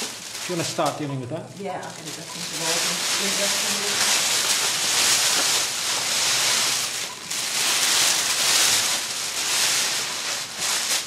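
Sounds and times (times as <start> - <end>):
foil blanket crinkling and rustling: 0.0 - 11.0.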